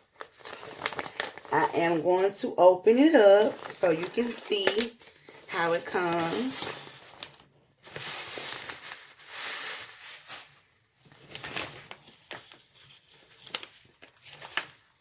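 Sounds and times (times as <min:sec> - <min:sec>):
packaging rustling and crinkling: 0:00.0 - 0:01.9, 0:02.9 - 0:15.0.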